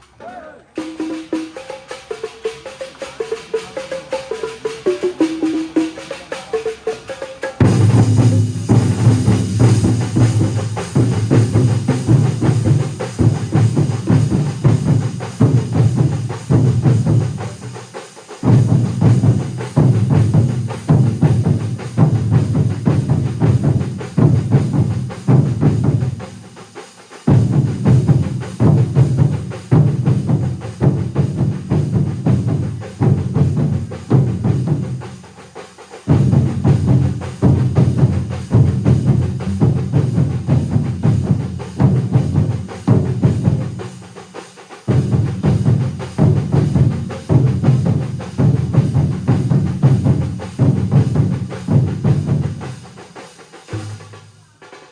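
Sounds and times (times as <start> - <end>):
massed drum ensemble: 0.0 - 54.8.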